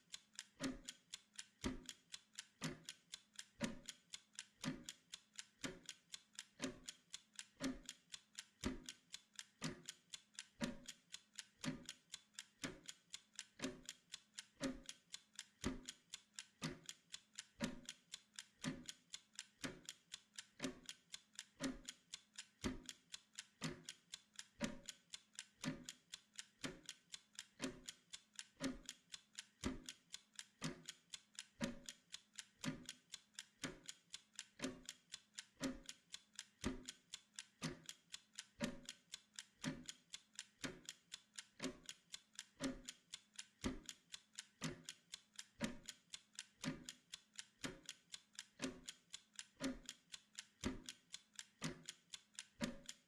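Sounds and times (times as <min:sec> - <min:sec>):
timer ticking: 0:00.0 - 0:53.0.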